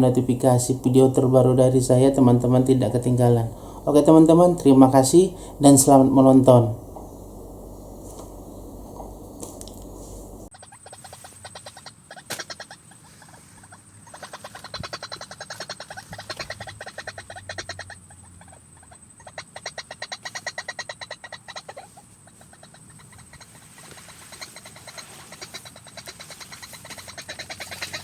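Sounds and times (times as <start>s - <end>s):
waterhen calling in harsh pulses: 0.0s - 28.0s.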